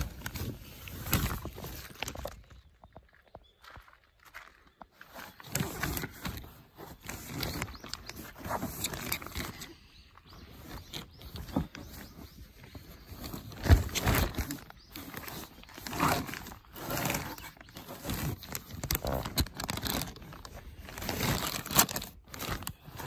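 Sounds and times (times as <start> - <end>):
fabric and plastic rustling: 0.0 - 3.1, 4.7 - 23.0.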